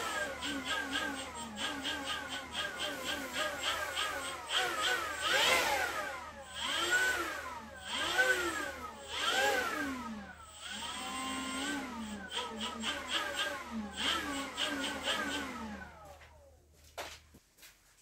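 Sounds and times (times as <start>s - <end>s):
leaf blower motor whine: 0.0s - 16.5s.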